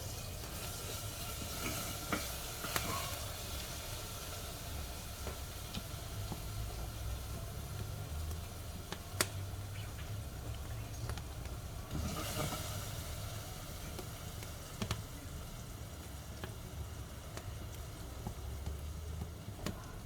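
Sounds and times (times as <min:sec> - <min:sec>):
fire crackles: 0:00.0 - 0:20.0
wood fire hissing in stove: 0:00.0 - 0:20.0.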